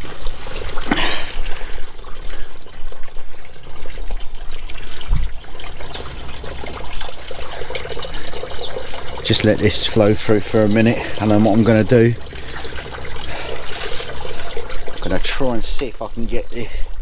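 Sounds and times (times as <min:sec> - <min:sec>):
waste water pouring from pipe: 0:00.0 - 0:17.0.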